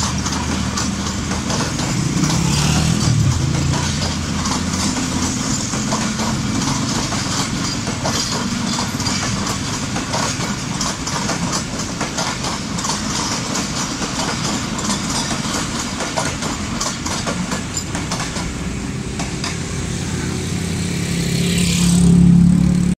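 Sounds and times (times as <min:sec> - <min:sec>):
train wheels clattering over rail joints: 0:00.0 - 0:20.0.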